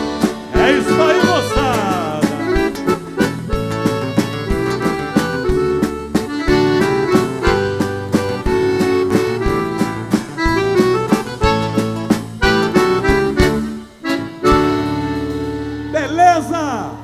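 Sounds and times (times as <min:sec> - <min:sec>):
drum kit beat: 0:00.0 - 0:15.5
accordion melody: 0:00.0 - 0:15.9.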